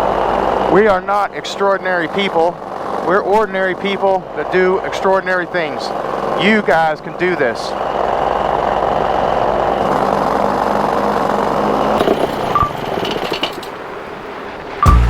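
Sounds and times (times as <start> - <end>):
paramotor engine and propeller: 0.0 - 14.8.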